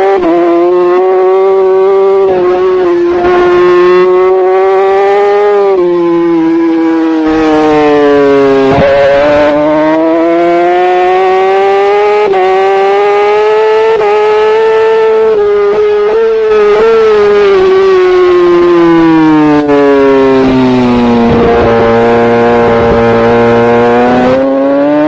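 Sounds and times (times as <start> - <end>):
superbike engine at high revs: 0.0 - 25.0.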